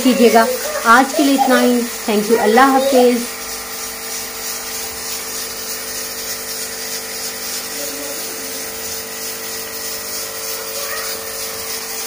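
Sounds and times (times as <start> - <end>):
high hiss: 0.0 - 11.8
small motor humming and whining: 0.0 - 12.0.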